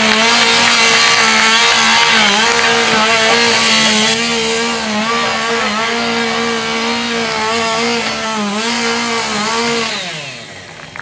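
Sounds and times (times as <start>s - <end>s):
chainsaw engine at high revs: 0.0s - 11.0s.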